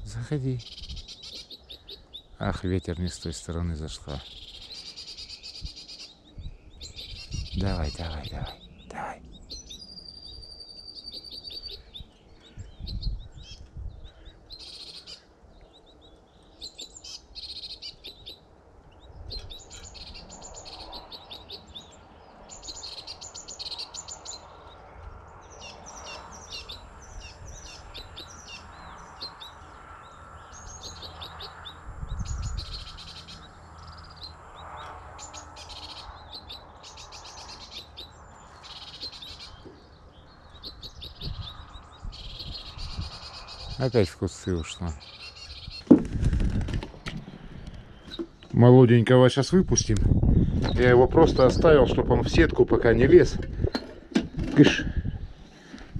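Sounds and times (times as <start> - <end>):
wind buffeting microphone: 0.0 - 2.6, 5.4 - 10.6, 11.3 - 14.6, 18.2 - 23.2, 24.1 - 35.3, 36.2 - 44.0, 44.9 - 48.8, 49.5 - 55.9
songbirds chirping: 0.0 - 55.9.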